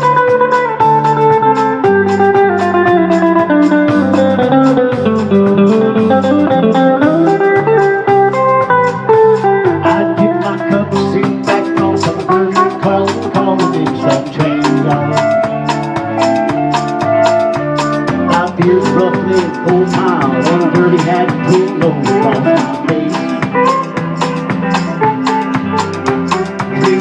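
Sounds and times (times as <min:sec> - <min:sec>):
drums keeping time: 0:00.0 - 0:27.0
guitar lead: 0:00.0 - 0:27.0
walking bass line: 0:00.0 - 0:27.0.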